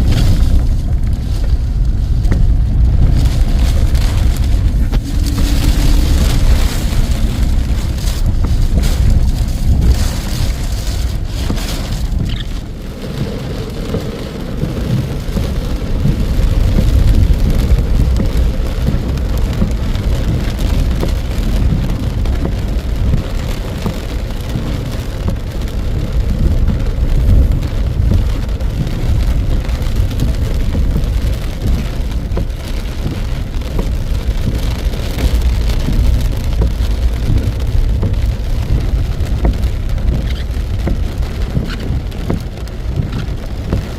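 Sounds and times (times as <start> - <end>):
heavy rain pouring: 0.0 - 43.9
strong wind: 0.0 - 43.9.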